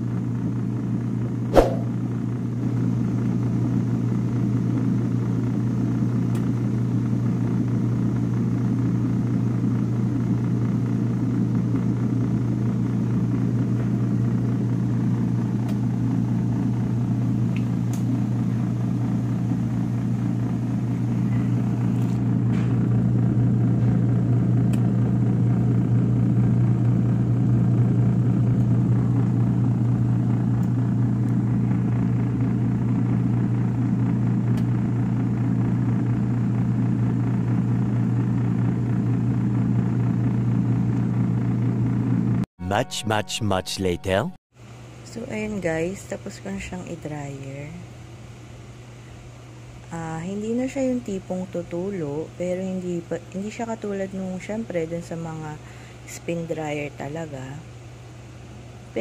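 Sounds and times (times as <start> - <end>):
spin dryer motor hum: 0.0 - 42.4, 44.6 - 59.0.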